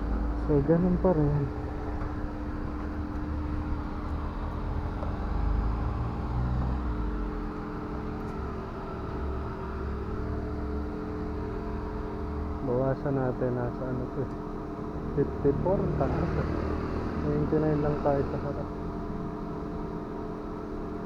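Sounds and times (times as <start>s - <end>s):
low vehicle rumble: 0.0s - 21.0s
motor humming: 0.0s - 21.0s.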